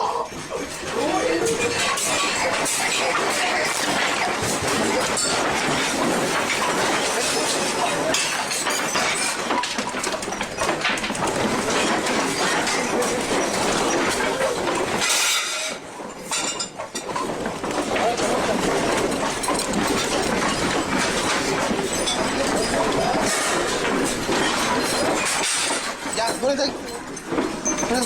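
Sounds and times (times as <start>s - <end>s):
objects knocking: 0.3s - 28.0s.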